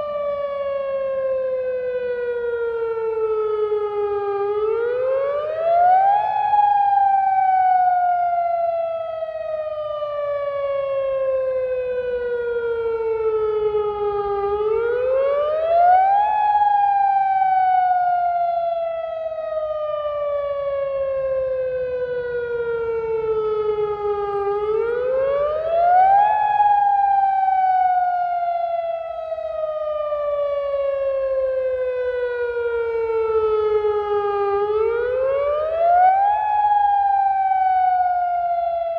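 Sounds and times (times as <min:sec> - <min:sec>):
warning siren wail: 0:00.0 - 0:38.9.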